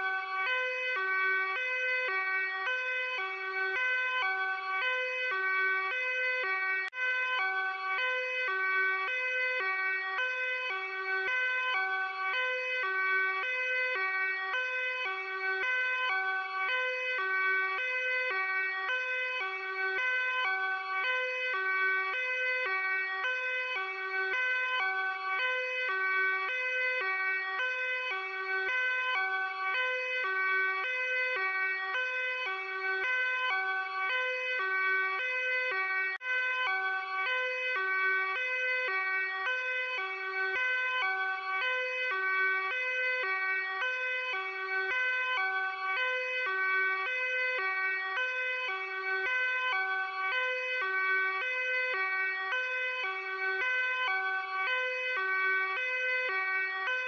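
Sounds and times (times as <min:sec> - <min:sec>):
police car two-tone siren: 0:00.0 - 0:57.0.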